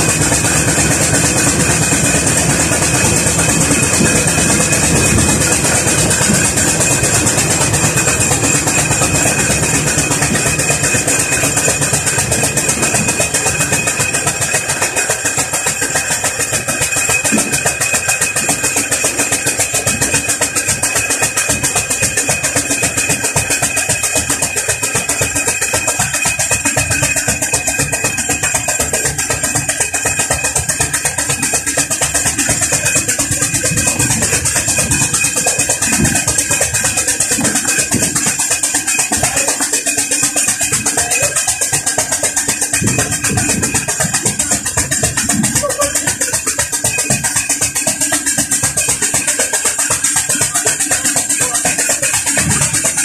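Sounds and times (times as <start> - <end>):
steam tractor running: 0.0 - 53.0.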